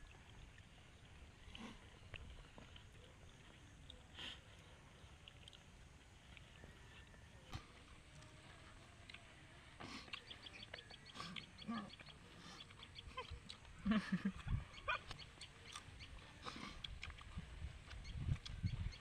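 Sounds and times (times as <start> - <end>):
wet chewing and lip smacking: 0.0 - 13.8, 14.4 - 19.0.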